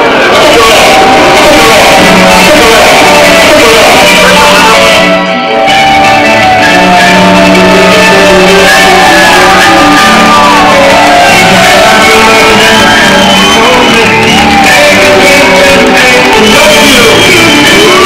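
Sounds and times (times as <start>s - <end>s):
electric guitar sliding notes: 0.0s - 18.0s
rock band playing live: 0.0s - 18.0s.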